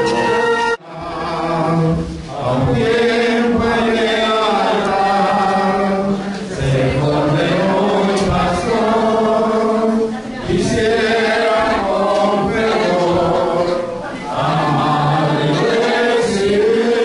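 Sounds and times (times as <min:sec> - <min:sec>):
group singing a slow hymn: 0:00.0 - 0:17.0.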